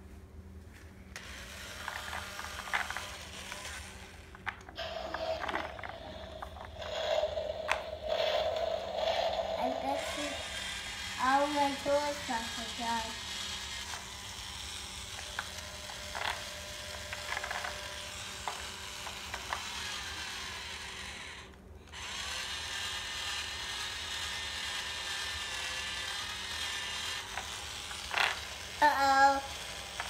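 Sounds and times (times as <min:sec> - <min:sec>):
toy drill whirring: 0:01.1 - 0:30.0.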